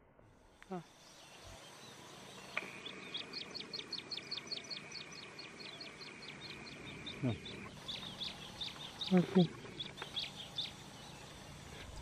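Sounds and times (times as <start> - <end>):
thin steady high tone: 0.4 - 12.0
small bird chirping rapidly: 0.6 - 12.0.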